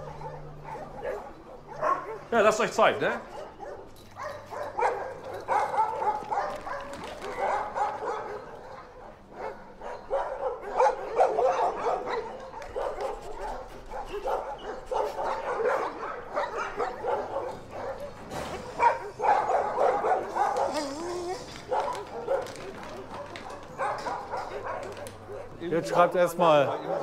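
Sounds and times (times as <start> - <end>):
dogs barking: 0.0 - 27.0.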